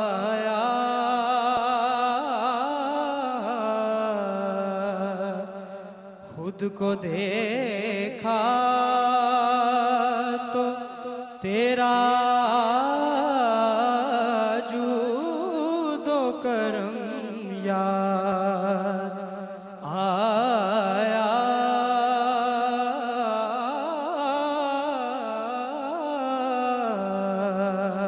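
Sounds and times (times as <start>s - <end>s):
man singing into a microphone: 0.0s - 28.0s.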